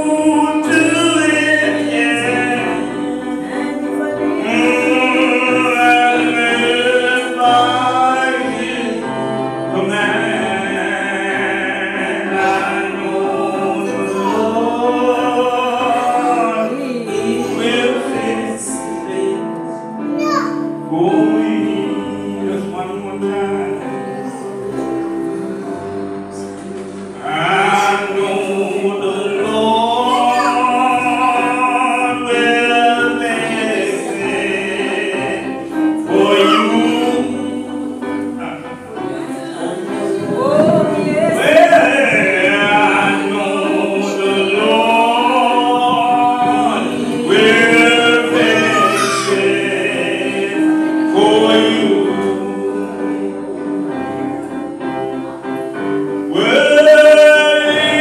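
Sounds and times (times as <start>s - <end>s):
gospel singing with vibrato: 0.0s - 58.0s
held instrumental chords: 0.0s - 58.0s.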